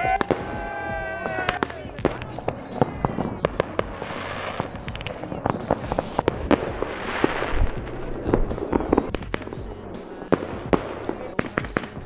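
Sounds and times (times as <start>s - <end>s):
fireworks cracking and popping: 0.0s - 12.0s
steady high hiss: 0.0s - 12.0s.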